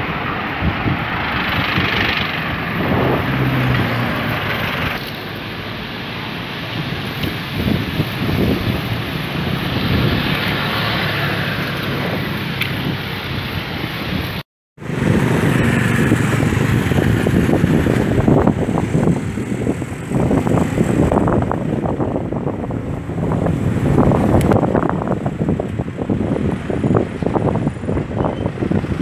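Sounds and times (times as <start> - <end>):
wind buffeting microphone: 0.0 - 5.2, 6.6 - 29.0
street traffic: 0.0 - 29.0.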